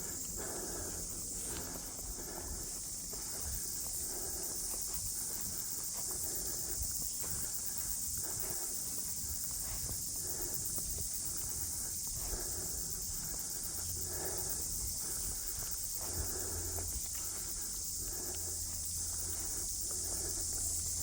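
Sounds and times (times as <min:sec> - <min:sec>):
steady high-pitched hiss: 0:00.0 - 0:21.0.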